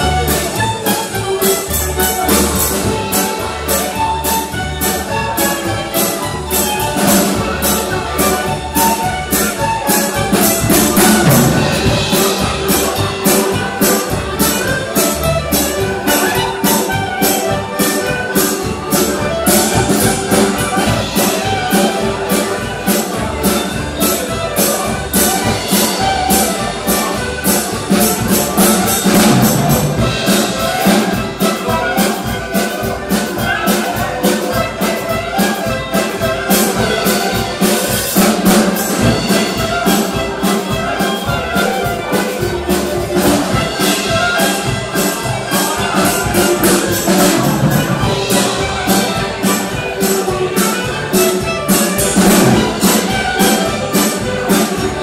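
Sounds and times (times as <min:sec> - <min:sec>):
clarinet: 0:00.0 - 0:55.0
double bass: 0:00.0 - 0:55.0
drum kit: 0:00.0 - 0:55.0
fiddles: 0:00.0 - 0:55.0
piano accordion: 0:00.0 - 0:55.0.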